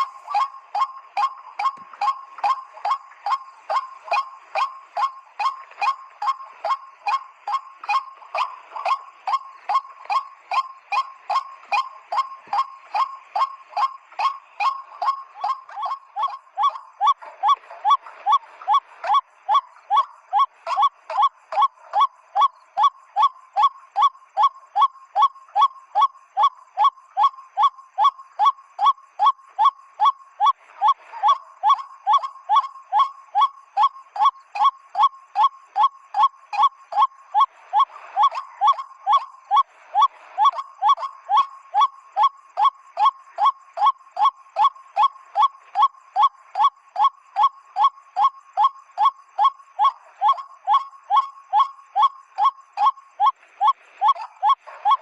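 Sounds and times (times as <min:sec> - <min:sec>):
bird whistle honking notes: 0:00.0 - 0:55.0.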